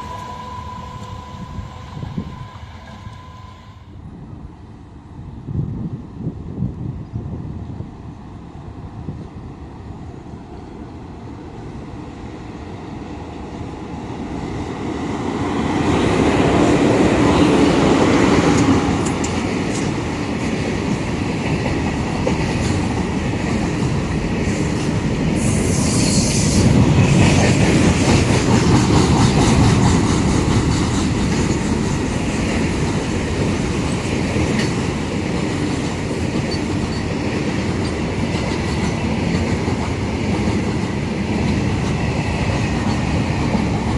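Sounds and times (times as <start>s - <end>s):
train passing close by: 0.0s - 43.9s.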